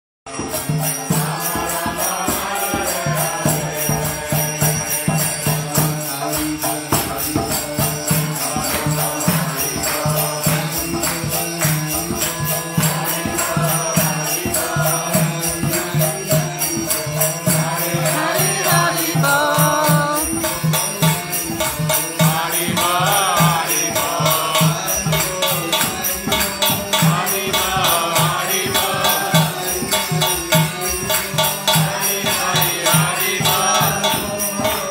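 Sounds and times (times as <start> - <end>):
hand cymbals: 0.3 - 34.9
man singing a chant: 0.6 - 20.5, 22.2 - 34.9.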